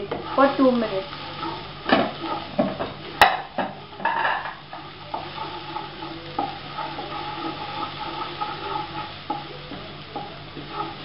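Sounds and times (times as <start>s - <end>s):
paste sizzling in hot oil: 0.0s - 11.0s
spatula scraping pan: 0.0s - 11.0s.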